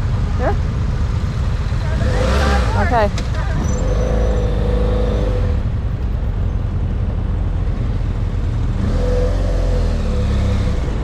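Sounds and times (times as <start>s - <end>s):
motorcycle engine low rumble: 0.0s - 11.0s.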